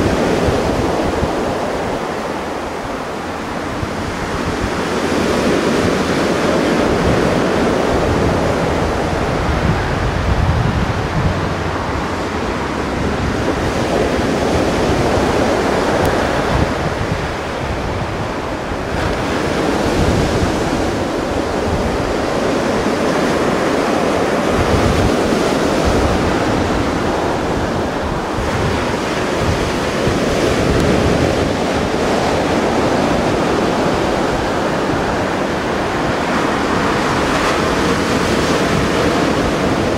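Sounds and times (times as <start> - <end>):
surf washing on shore: 0.0 - 39.9
wind buffeting microphone: 0.0 - 39.9.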